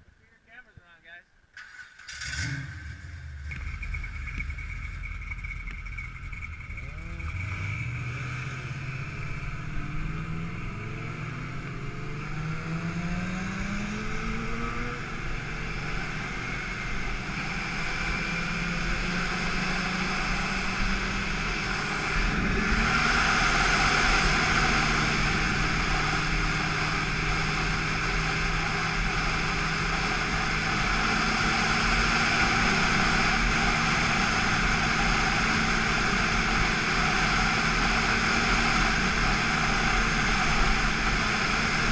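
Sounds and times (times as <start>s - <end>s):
motorcycle engine accelerating: 1.6s - 41.9s.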